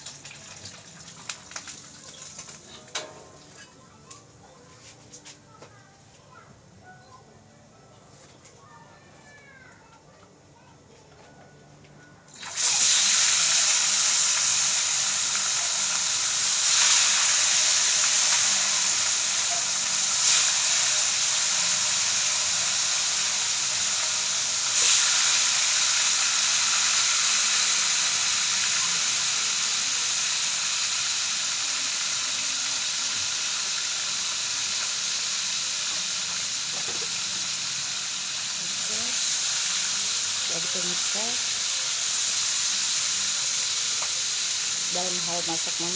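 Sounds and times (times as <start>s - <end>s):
oil popping and crackling: 0.0s - 4.2s, 12.4s - 45.9s
food sizzling in hot oil: 0.0s - 4.3s, 12.3s - 45.9s.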